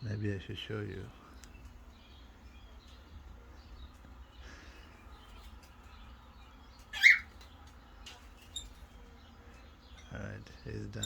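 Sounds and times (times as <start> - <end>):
faint bird chirps: 0.9 - 11.0.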